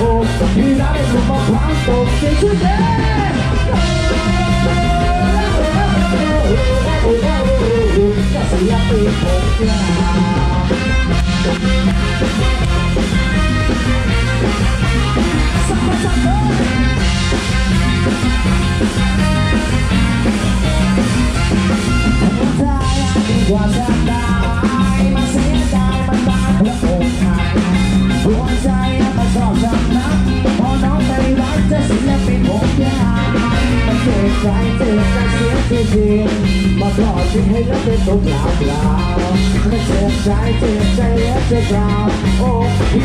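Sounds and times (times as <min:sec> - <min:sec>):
drum kit and congas: 0:00.0 - 0:43.0
electric bass: 0:00.0 - 0:43.0
electric guitar: 0:00.0 - 0:43.0
keyboard: 0:00.0 - 0:43.0.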